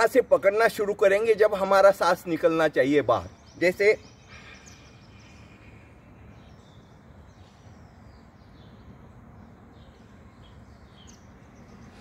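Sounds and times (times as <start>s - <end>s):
faint bird chirps: 2.1s - 12.0s.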